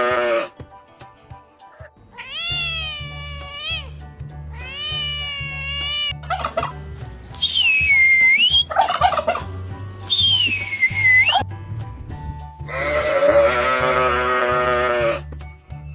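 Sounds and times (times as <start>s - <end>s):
background music with beat: 0.1s - 15.9s.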